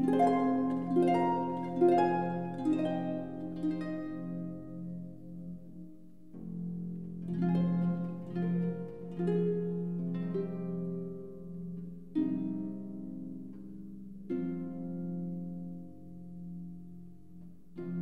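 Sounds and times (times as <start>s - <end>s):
harp playing: 0.0s - 18.0s.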